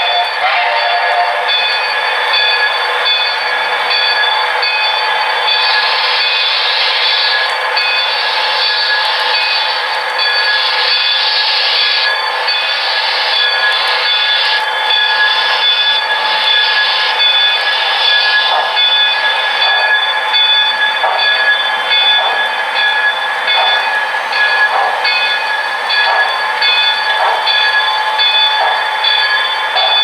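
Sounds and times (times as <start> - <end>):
model train locomotive sounds: 0.0 - 30.0.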